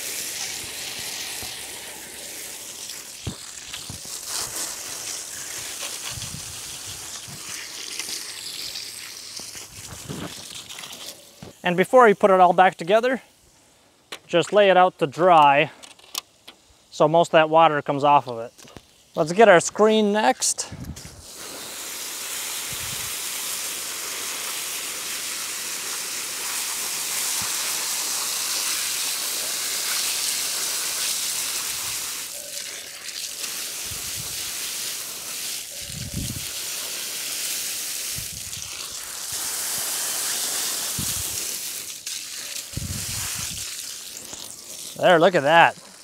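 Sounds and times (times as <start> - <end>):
hose spray hitting mesh filter: 0.0 - 11.8, 18.3 - 46.0.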